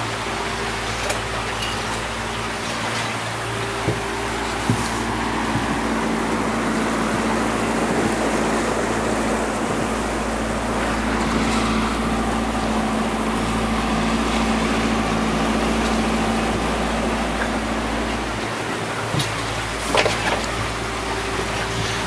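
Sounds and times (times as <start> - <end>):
outboard motor humming: 0.0 - 22.0
water rushing along hull: 0.0 - 22.0
wind: 0.0 - 22.0.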